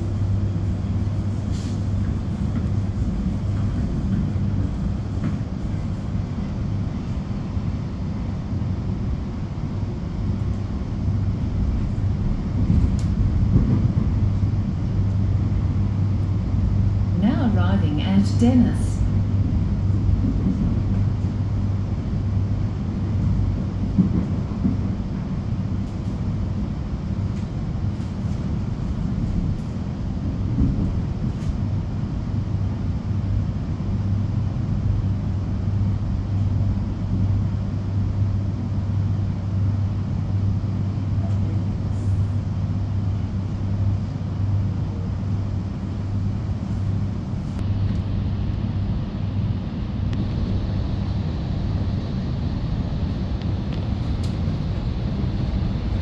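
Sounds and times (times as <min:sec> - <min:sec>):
constant low hum: 0:00.0 - 0:56.0
train running noise: 0:00.0 - 0:56.0.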